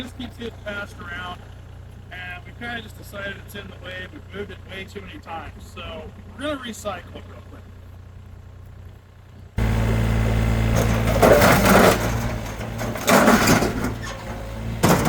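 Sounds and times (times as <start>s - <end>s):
excavator diesel engine: 0.0s - 15.0s
metal crunching and scraping: 0.0s - 15.0s.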